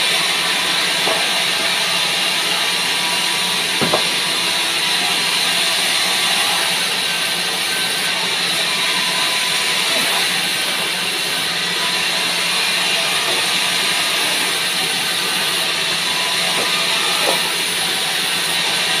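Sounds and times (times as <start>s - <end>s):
band saw cutting wood: 0.0s - 19.0s.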